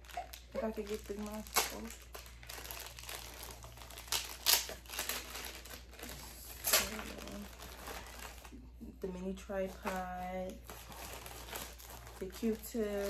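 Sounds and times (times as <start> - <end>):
packaging wrapper crinkling: 0.0 - 8.7, 9.5 - 13.0.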